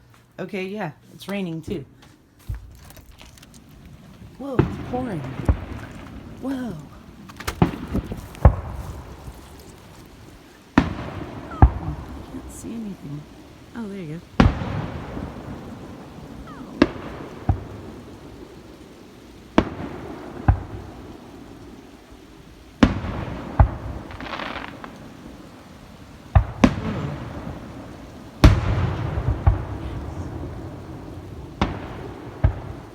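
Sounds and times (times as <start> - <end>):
crackling hiss: 0.0 - 32.9
distant fireworks bangs: 3.4 - 32.9.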